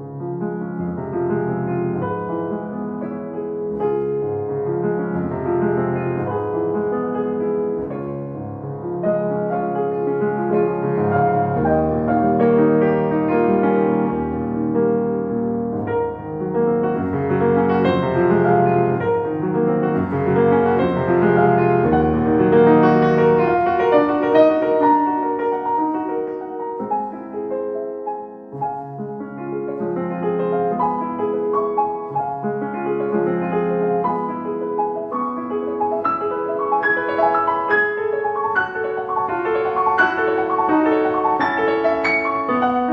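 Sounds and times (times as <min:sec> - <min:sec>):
solo piano music: 0:00.0 - 0:42.9.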